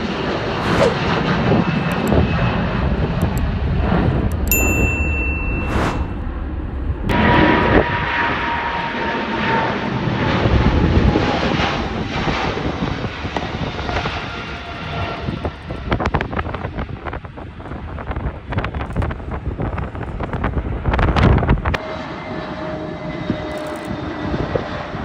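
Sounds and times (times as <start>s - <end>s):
jet engine roar with whine: 0.0s - 4.6s, 5.5s - 25.0s
wind buffeting microphone: 0.0s - 21.8s, 22.9s - 25.0s.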